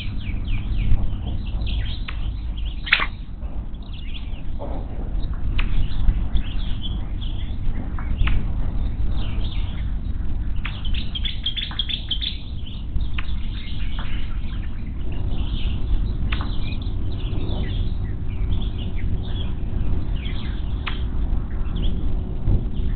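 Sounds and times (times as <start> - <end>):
birds chirping: 0.0 - 22.9
steady low rumble: 0.0 - 22.9.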